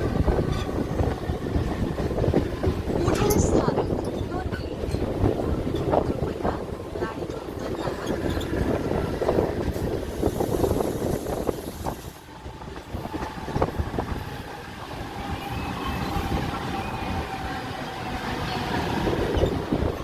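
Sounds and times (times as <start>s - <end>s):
steady train whine: 0.0s - 20.0s
train wheels rumbling on rails: 0.0s - 20.0s.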